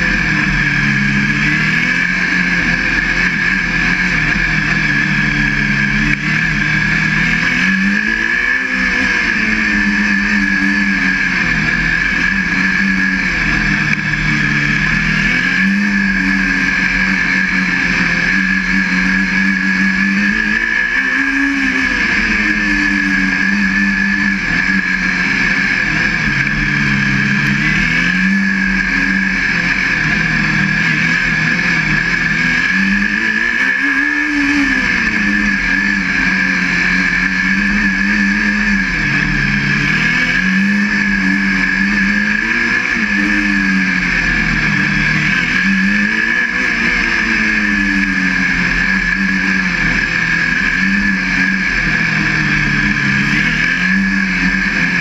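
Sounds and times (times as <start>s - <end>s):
race car engine revving: 0.0s - 55.0s
steady high whine: 0.0s - 55.0s.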